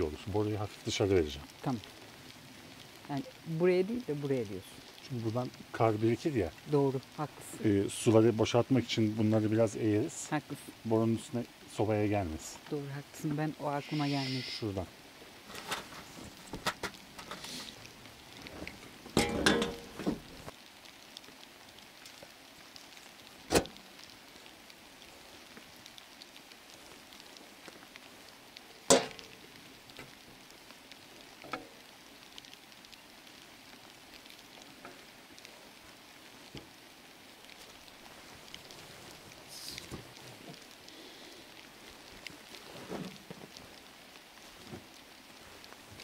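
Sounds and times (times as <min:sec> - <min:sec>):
snow pattering on an awning: 0:00.0 - 0:46.0.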